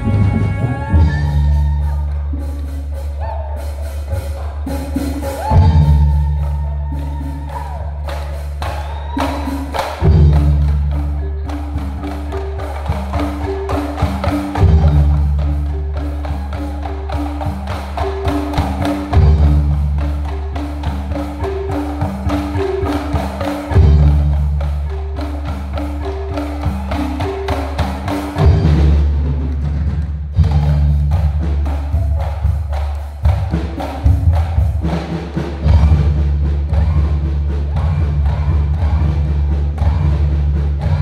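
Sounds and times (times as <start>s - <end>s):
frame drums playing: 0.0s - 41.0s
struck pitched melody: 0.0s - 41.0s.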